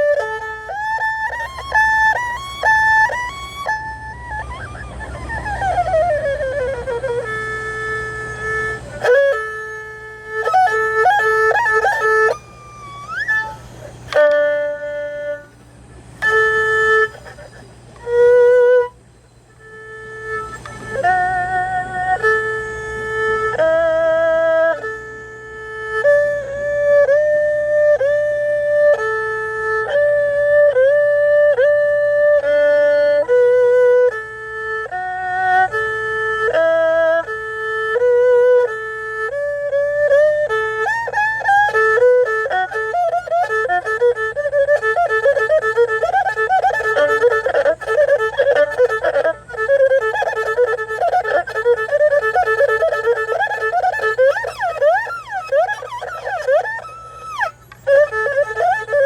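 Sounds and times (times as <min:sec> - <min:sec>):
solo erhu playing: 0:00.0 - 0:59.0.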